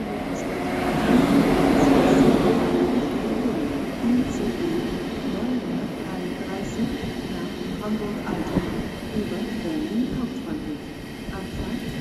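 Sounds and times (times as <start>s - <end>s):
train rumbling along tracks: 0.0s - 12.0s.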